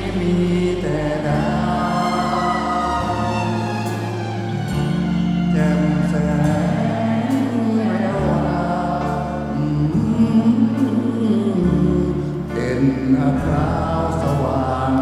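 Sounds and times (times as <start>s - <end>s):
man singing into microphone: 0.0s - 4.0s, 5.3s - 15.0s
band playing chords and bass: 0.0s - 15.0s.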